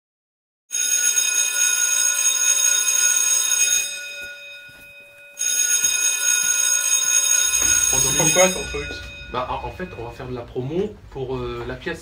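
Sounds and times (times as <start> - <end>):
loud electric alarm ringing: 0.7 - 10.8.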